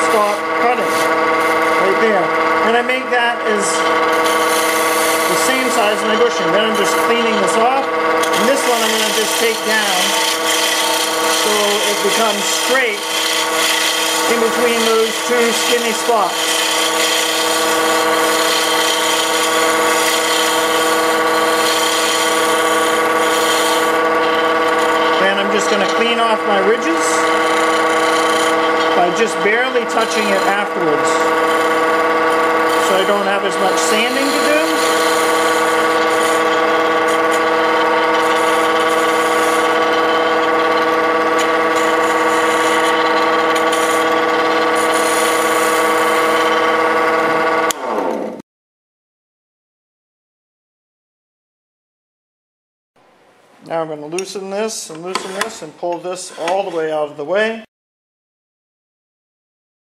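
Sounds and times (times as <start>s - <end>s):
gouge scraping wood: 0.0s - 47.2s, 54.9s - 57.1s
turning tool cutting wood: 0.0s - 48.4s, 53.7s - 57.5s
wood lathe motor hum: 0.0s - 48.4s, 55.0s - 57.0s.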